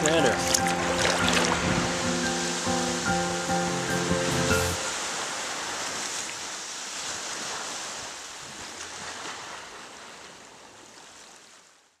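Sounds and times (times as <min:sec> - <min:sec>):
sea water rushing: 0:00.0 - 0:11.3.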